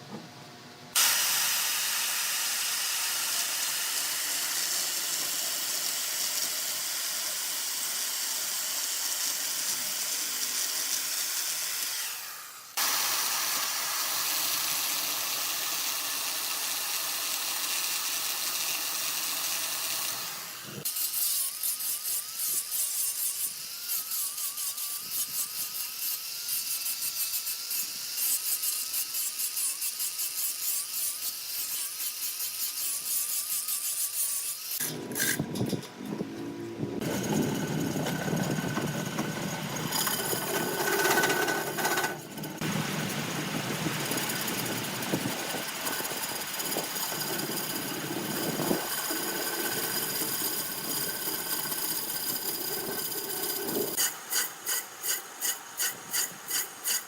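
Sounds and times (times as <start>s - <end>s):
power tool buzzing whine: 0.9s - 57.0s.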